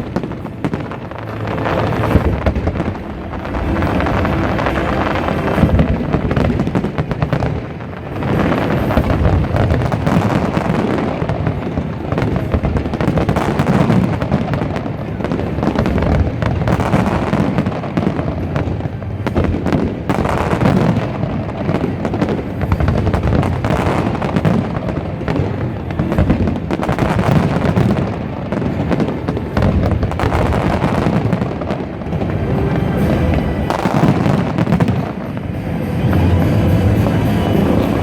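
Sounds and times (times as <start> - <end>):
fireworks booming and crackling: 0.0 - 38.0.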